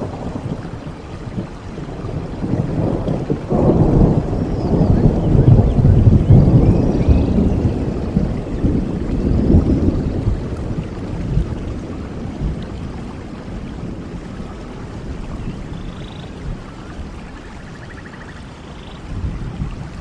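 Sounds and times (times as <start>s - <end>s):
low rumble of thunder: 0.0s - 20.0s
rain falling: 0.0s - 20.0s.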